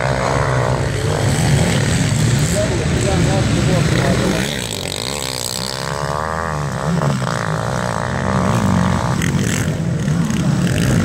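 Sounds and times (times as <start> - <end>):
quad bike engines revving: 0.0 - 11.0.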